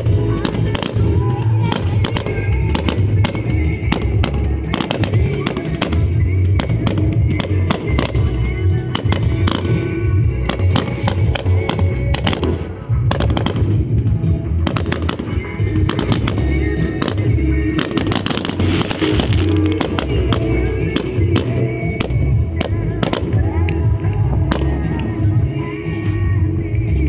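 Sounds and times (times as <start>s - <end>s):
fireworks bangs and crackles: 0.0s - 27.0s
music playing: 0.0s - 27.0s.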